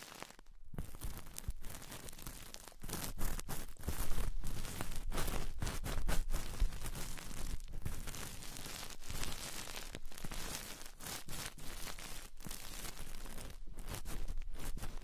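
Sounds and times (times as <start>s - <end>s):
crinkling and crunching material: 0.0s - 15.0s.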